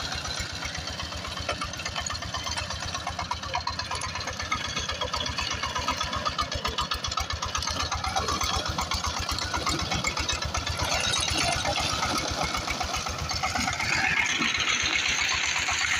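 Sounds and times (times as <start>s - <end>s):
diesel tiller engine knocking: 0.0s - 15.9s.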